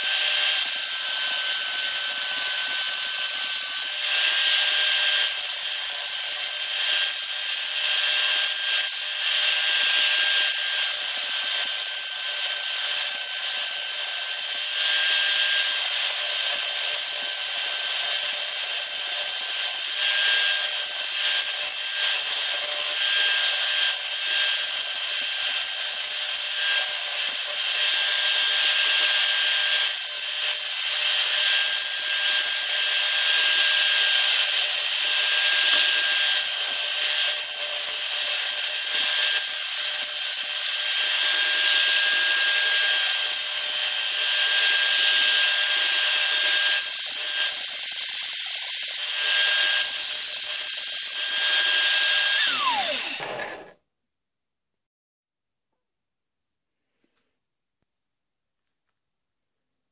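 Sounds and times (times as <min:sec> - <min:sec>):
file rasping on spinning wood: 0:00.0 - 0:25.8, 0:26.6 - 0:53.7
electric drill whining: 0:00.0 - 0:53.8.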